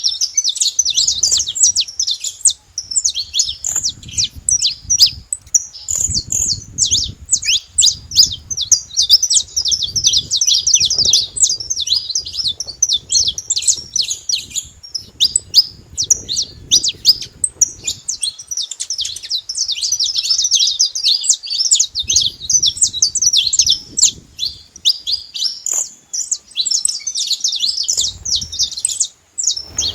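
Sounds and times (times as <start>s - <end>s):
finches chirping and trilling: 0.0s - 29.9s.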